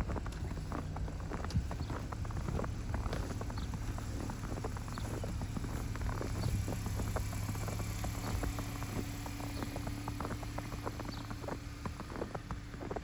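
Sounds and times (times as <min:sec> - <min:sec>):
footsteps crunching in snow: 0:00.0 - 0:13.0
low hum of vehicle engines: 0:00.0 - 0:13.0.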